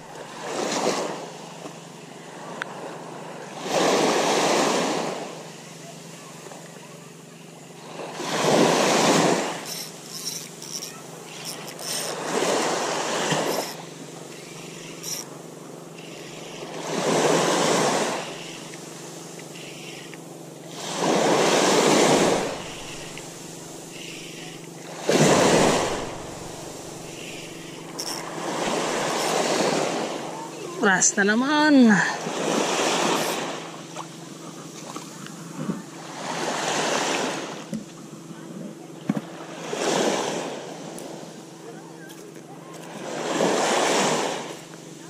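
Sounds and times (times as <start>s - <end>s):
small waves washing on beach: 0.0s - 45.0s.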